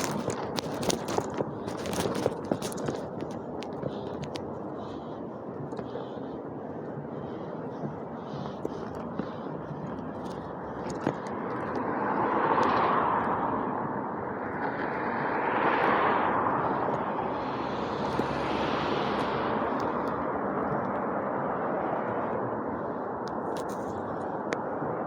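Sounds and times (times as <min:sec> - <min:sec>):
vehicles passing by: 0:00.0 - 0:25.0.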